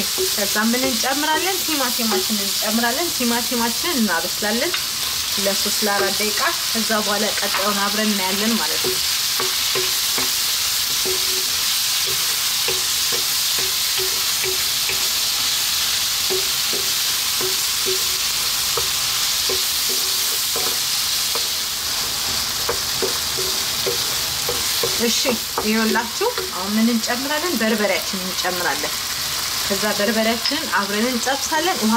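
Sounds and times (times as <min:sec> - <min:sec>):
food sizzling in a wok: 0:00.0 - 0:31.9.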